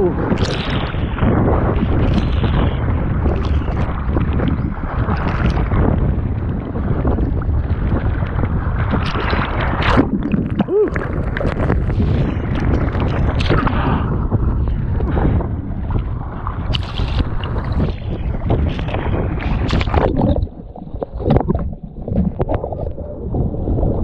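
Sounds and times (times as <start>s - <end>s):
water rushing and slapping: 0.0s - 24.0s
wind buffeting microphone: 0.0s - 24.0s.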